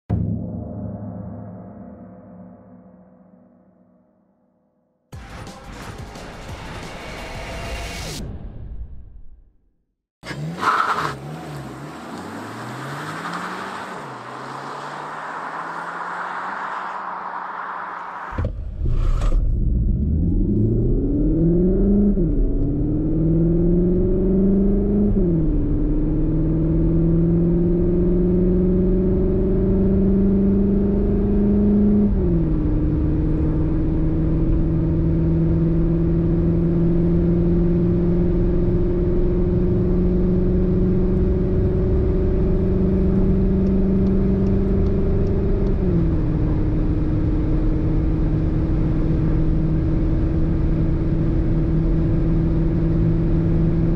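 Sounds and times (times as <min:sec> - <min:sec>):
car engine accelerating: 0:10.2 - 0:53.9.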